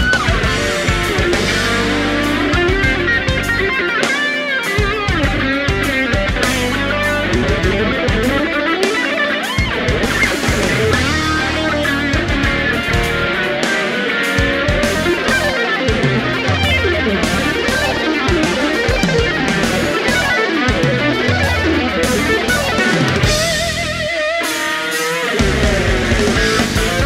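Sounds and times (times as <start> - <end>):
bass and drums backing: 0.0 - 27.0
distorted electric guitar lead: 0.0 - 27.0.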